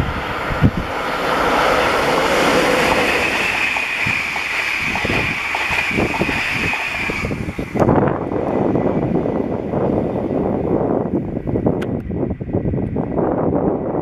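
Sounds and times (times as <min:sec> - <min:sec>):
train passing at speed: 0:00.0 - 0:14.0
wind thumps on microphone: 0:00.0 - 0:14.0.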